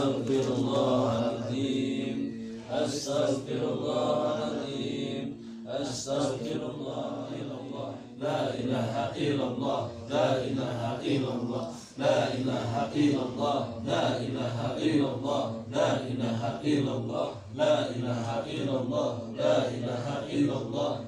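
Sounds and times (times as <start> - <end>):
men chanting prayers: 0.0 - 21.0.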